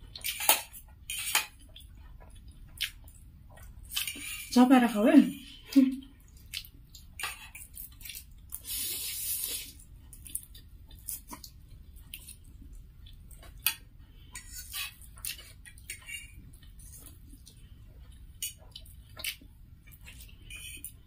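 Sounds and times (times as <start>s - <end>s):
people slurping and chewing noodles: 0.0s - 4.5s, 5.5s - 21.0s.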